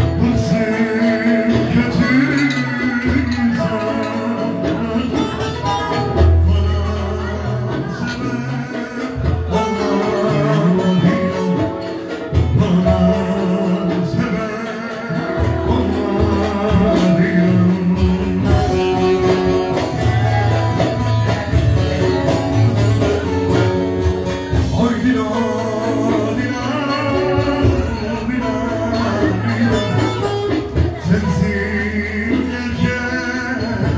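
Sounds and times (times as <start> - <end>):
band playing: 0.0 - 33.9
man singing into a microphone: 0.0 - 33.9.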